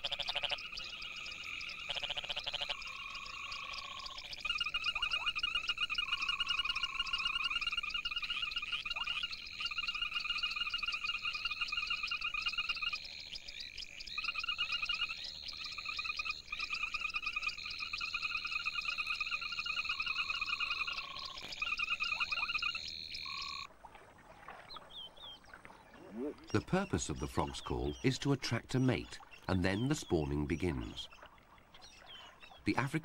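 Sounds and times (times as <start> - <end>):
frogs trilling: 0.0 - 23.7, 24.9 - 33.0.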